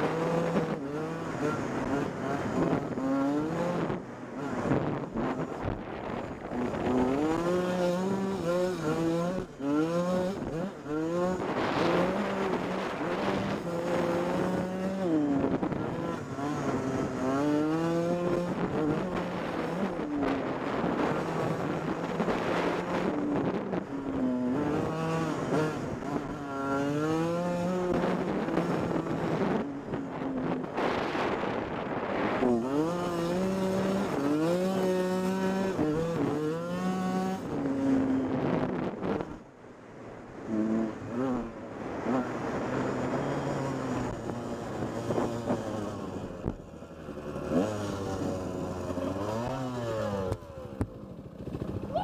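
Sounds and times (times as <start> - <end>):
dirt bike engine revving: 0.0 - 29.7, 30.4 - 39.4, 40.4 - 52.0.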